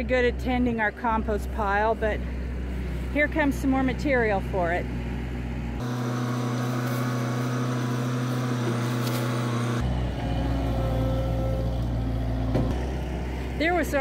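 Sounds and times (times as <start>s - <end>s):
loader engine running: 0.0s - 14.0s.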